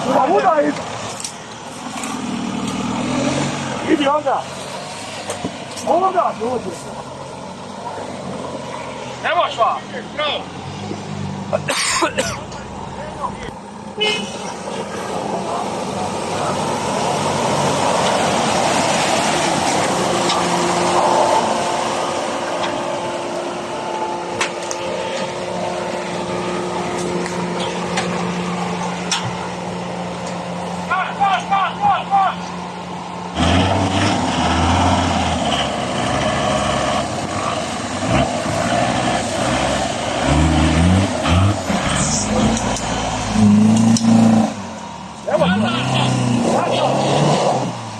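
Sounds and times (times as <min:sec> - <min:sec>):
off-road vehicle engine under load: 0:00.0 - 0:47.9.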